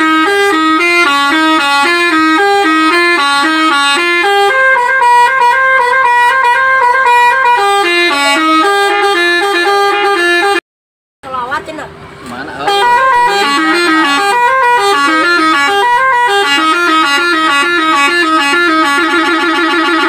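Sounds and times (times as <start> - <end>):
bus air horn playing melody: 0.0 - 10.6, 12.6 - 20.0.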